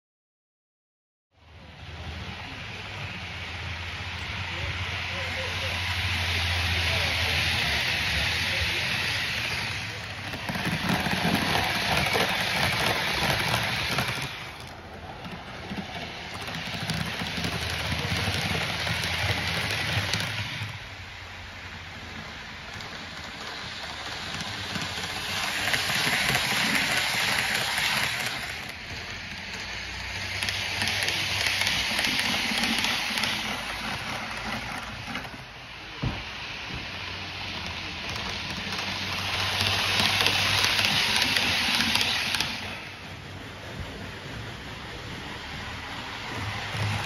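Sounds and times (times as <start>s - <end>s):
model train rumbling on track: 1.4s - 47.0s.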